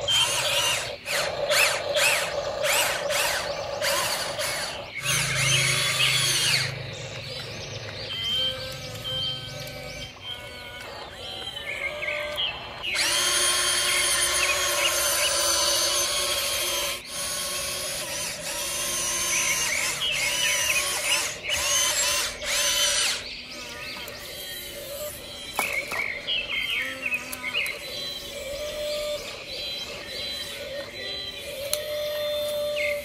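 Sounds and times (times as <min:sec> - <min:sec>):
small electric motor whirring: 0:00.0 - 0:33.0
soft chirping: 0:00.0 - 0:33.0.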